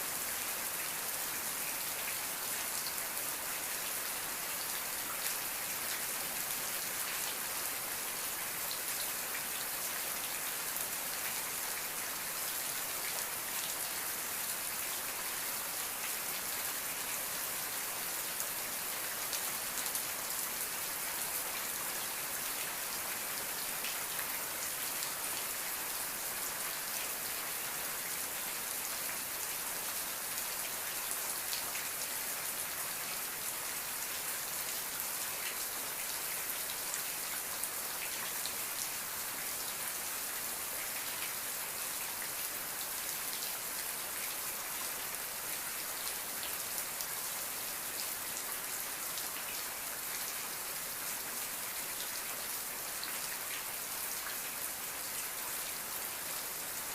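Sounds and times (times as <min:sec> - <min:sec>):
steady rain pattering: 0:00.0 - 0:56.9.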